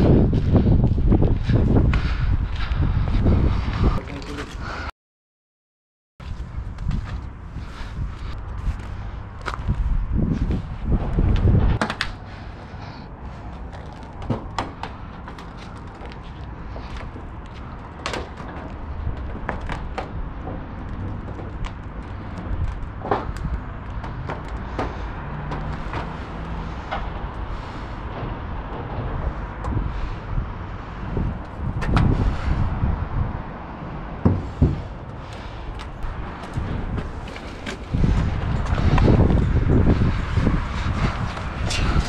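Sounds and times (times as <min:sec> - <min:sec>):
footsteps on concrete and metal: 0:00.0 - 0:04.8, 0:06.2 - 0:42.0
wind rumbling on microphone: 0:00.0 - 0:04.9, 0:06.2 - 0:42.0.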